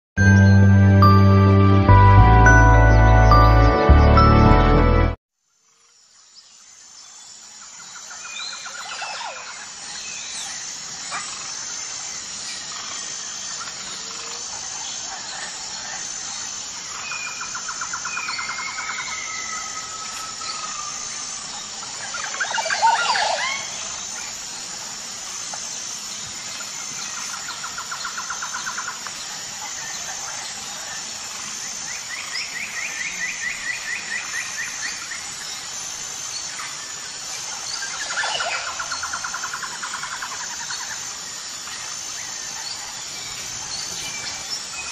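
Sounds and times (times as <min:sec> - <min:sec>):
high-pitched insect drone: 0:05.5 - 0:44.9.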